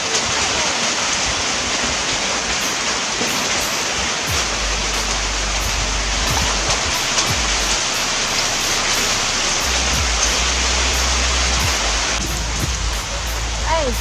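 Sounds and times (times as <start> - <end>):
steady rain hiss: 0.0 - 14.0
low rumble: 2.5 - 14.0.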